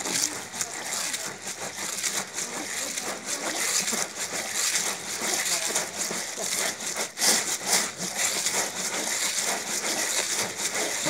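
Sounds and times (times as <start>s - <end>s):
hand squishing wet fruit seeds: 0.0s - 11.0s.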